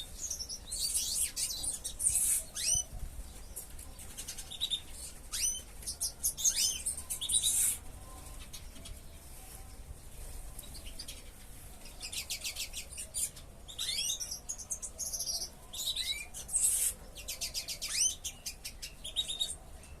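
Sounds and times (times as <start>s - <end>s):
cage birds chirping and calling: 0.0s - 20.0s.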